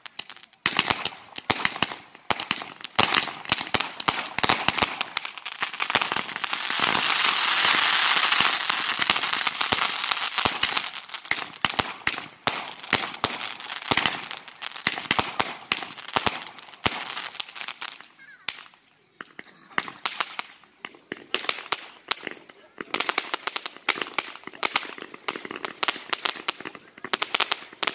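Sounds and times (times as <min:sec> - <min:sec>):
firework pops and bangs: 0:00.0 - 0:27.9
fireworks crackling: 0:00.0 - 0:27.9.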